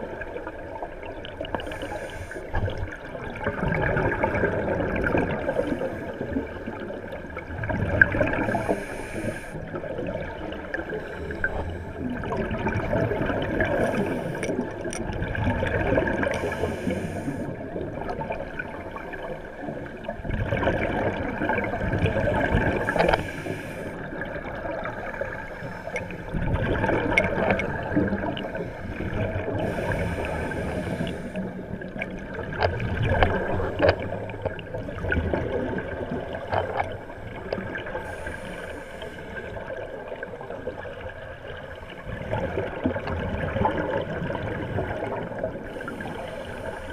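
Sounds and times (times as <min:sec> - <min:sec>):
underwater bubbles gurgling: 0:00.0 - 0:46.9.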